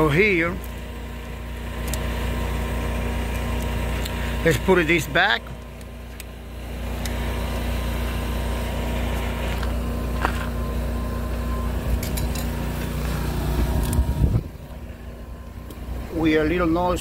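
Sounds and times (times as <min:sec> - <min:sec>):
generator engine cranking: 0:00.0 - 0:17.0.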